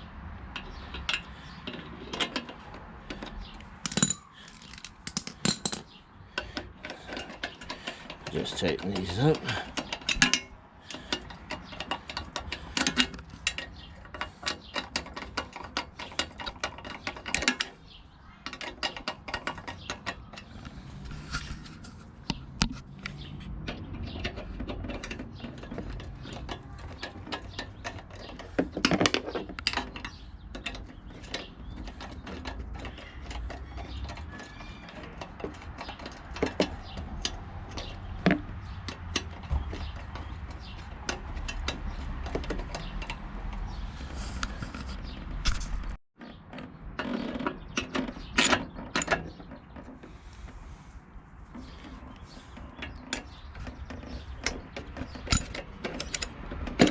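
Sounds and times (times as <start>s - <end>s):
tools and metal parts clinking: 0.4s - 50.8s, 51.4s - 56.9s.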